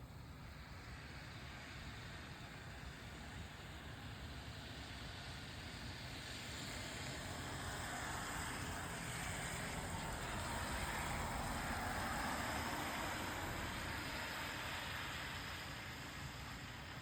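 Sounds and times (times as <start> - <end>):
tyres hissing on wet road: 0.1 - 17.0.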